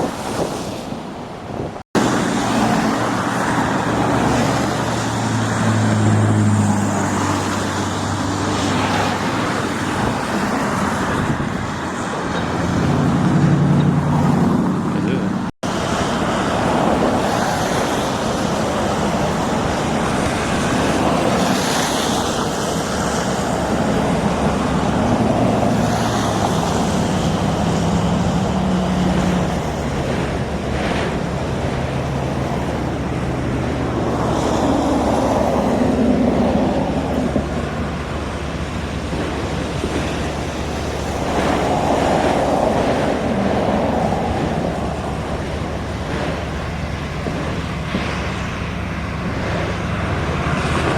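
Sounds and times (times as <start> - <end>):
wind on microphone: 0.0 - 50.9
vehicle engine drone: 2.0 - 50.9.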